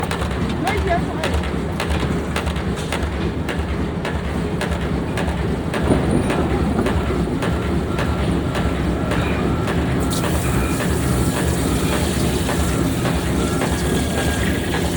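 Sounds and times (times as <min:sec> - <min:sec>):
low machine hum: 0:00.0 - 0:14.9
air hammer striking: 0:01.2 - 0:14.9.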